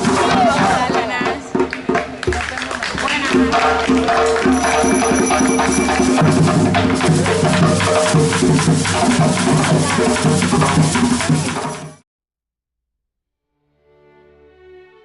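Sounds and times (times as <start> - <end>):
rhythmic percussion: 0.0 - 12.0.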